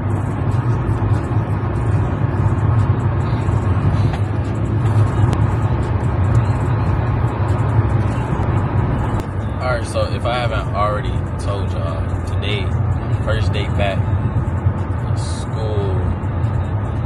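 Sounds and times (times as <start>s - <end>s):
car engine rumble: 0.0s - 17.0s
road noise: 0.0s - 17.0s.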